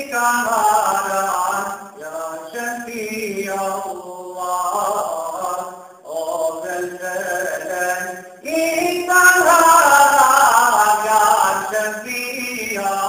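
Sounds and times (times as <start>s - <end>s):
man singing a devotional hymn: 0.0s - 13.0s.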